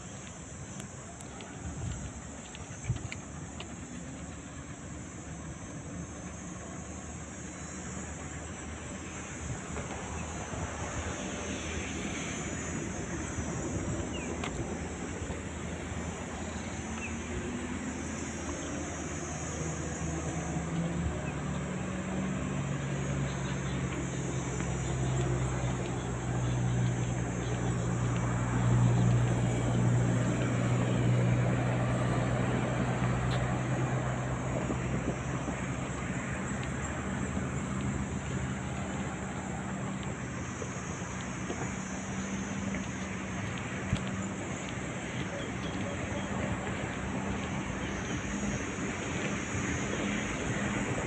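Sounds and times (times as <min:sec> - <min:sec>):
low engine drone: 0:00.0 - 0:51.0.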